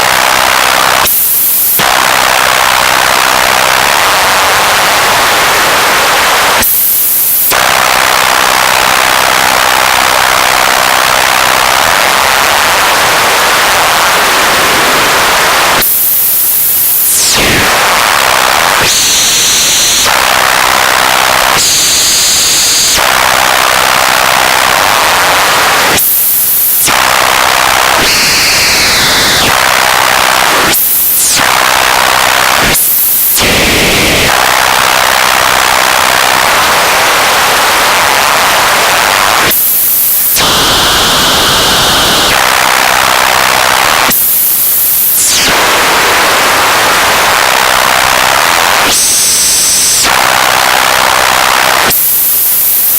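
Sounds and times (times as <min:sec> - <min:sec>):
radio static hissing and crackling: 0:00.0 - 0:52.9.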